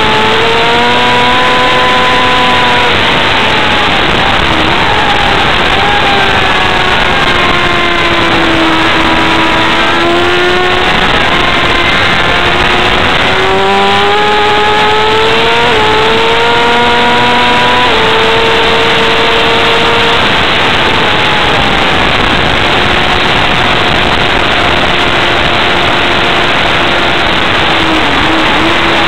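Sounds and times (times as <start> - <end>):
motorcycle engine at speed: 0.0 - 29.0
wind rush: 0.0 - 29.0.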